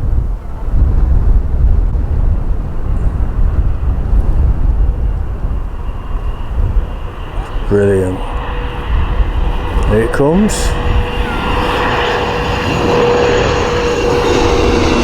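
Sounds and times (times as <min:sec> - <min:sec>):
faint high turbine whine: 0:00.0 - 0:15.0
jet engine rumble: 0:00.0 - 0:15.0.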